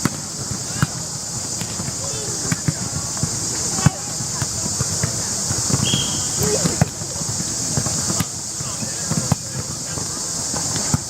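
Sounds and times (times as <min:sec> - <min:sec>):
steady high hiss: 0:00.0 - 0:11.0
knocks and thumps of play: 0:00.4 - 0:11.0
players' voices: 0:00.6 - 0:11.0.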